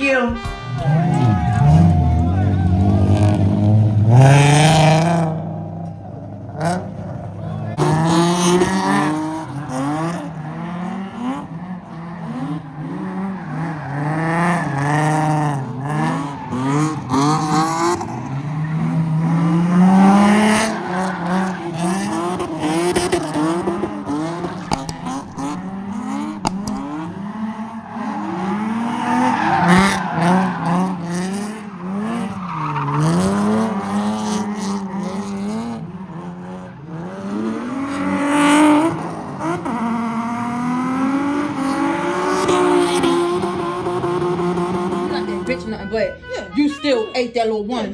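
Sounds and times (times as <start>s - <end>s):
car engine revving: 0.5s - 45.9s
tyres squealing: 0.7s - 5.1s, 6.5s - 47.6s.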